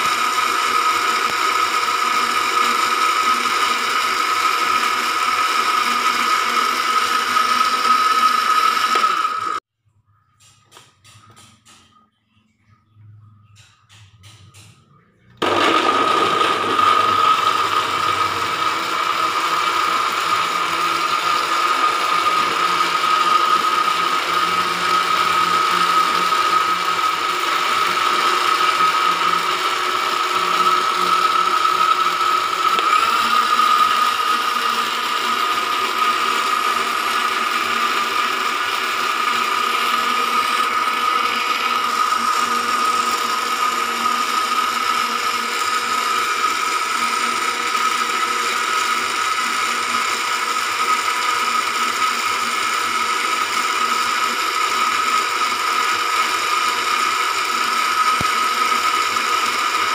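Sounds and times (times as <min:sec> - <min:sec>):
blender switch: 0:00.0 - 0:09.6, 0:15.3 - 0:59.9
blender motor whining: 0:00.0 - 0:09.7, 0:15.2 - 0:59.9.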